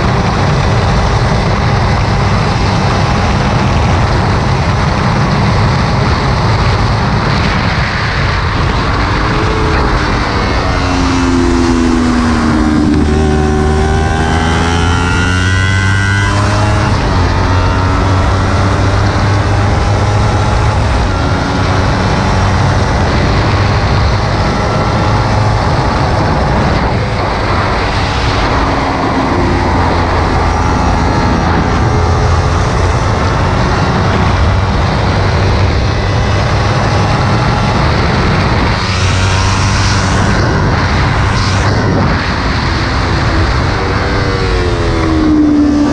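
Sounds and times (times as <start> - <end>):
motorcycle engine running hard: 0.0 - 45.9
wind noise: 0.0 - 45.9.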